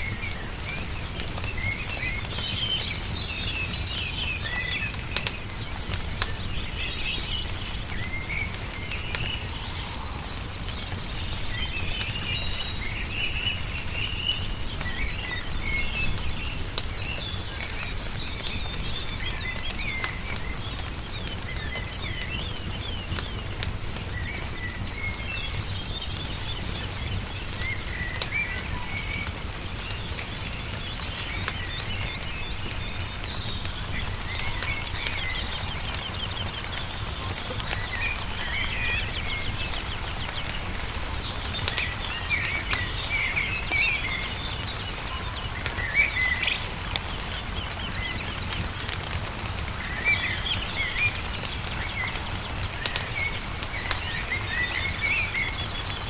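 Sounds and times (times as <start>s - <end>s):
songbirds chirping and singing: 0.0s - 56.0s
wood fire crackling and popping: 0.0s - 56.0s.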